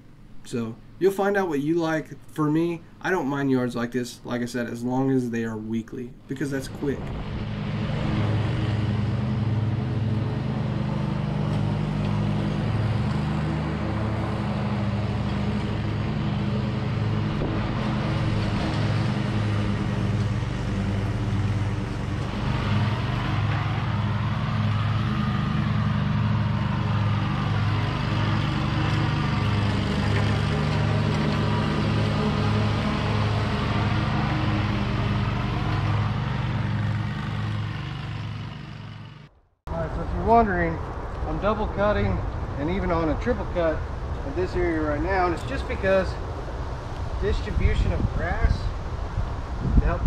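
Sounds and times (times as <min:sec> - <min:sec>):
lawn mower engine pulsing: 0:06.2 - 0:49.8.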